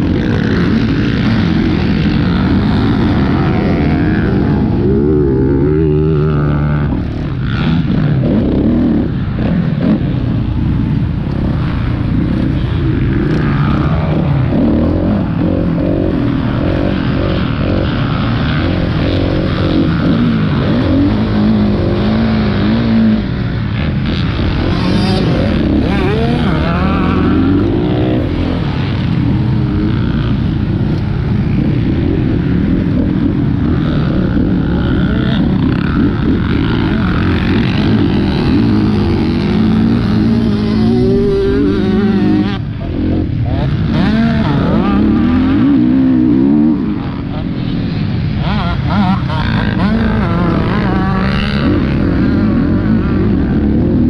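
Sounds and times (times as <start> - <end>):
dirt bike engine revving: 0.0 - 54.0
other dirt bikes running: 0.0 - 54.0.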